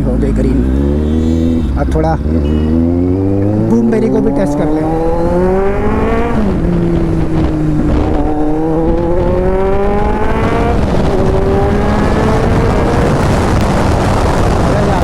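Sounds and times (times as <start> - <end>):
motorcycle engine accelerating: 0.0 - 15.0
rushing noise: 0.6 - 15.0.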